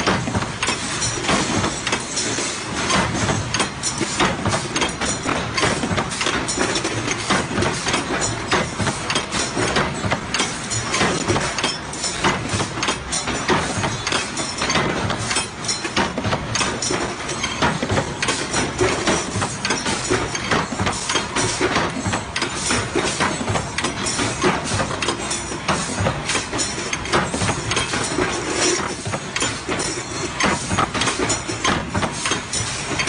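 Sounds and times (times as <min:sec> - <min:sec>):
punch press clatter: 0:00.0 - 0:33.0.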